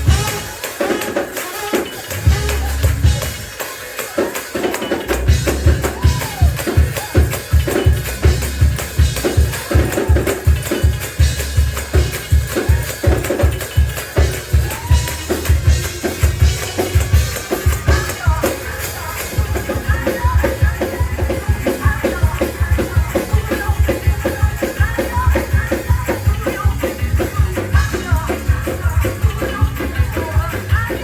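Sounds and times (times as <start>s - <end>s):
drums playing fast beat: 0.0s - 31.0s
tambourine: 0.0s - 31.0s.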